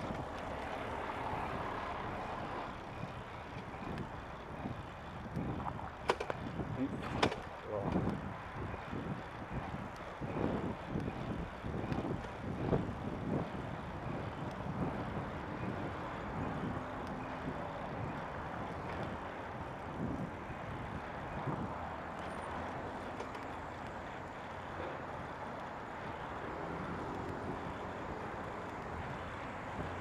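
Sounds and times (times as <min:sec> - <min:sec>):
heavy road traffic: 0:00.0 - 0:30.0.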